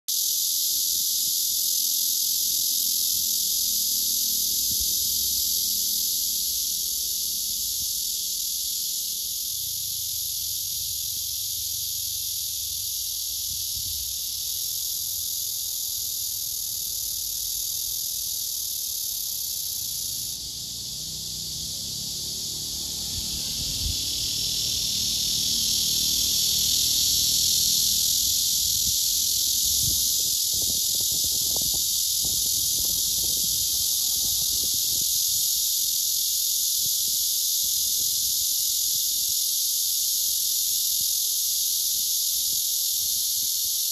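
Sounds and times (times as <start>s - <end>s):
cicada buzzing: 0.1s - 43.9s.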